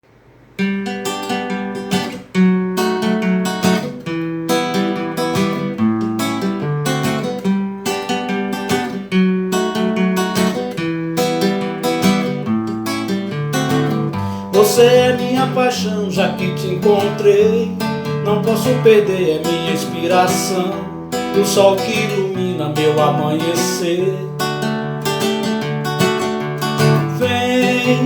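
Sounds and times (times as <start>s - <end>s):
acoustic guitar strumming: 0.3s - 28.0s.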